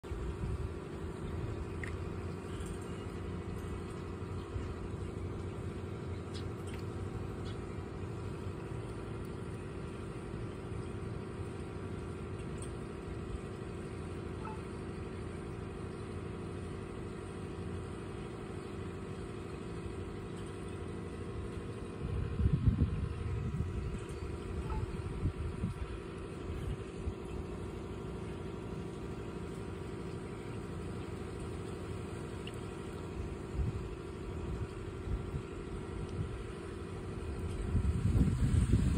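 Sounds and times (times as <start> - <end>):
aquarium pump humming: 0.0 - 38.9.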